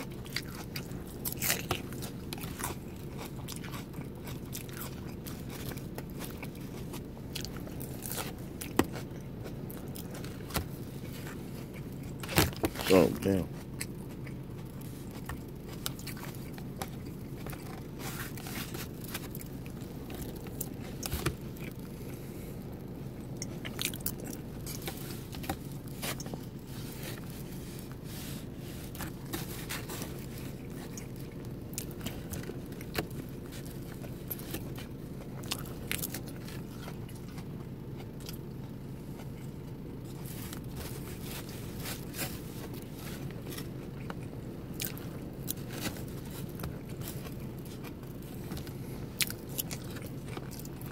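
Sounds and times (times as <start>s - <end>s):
chewing and crunching: 0.0s - 50.9s
steady low hum: 0.0s - 50.9s.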